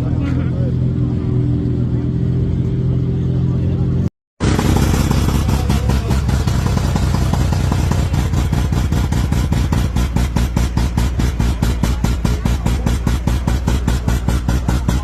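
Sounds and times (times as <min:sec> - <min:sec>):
car engine idling with choppy exhaust: 0:00.0 - 0:15.0.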